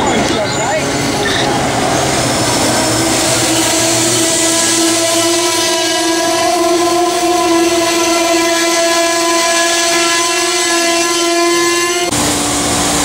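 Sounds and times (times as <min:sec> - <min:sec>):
loud steady pitched tone: 0:00.0 - 0:12.3
train cars rolling past: 0:00.0 - 0:13.0.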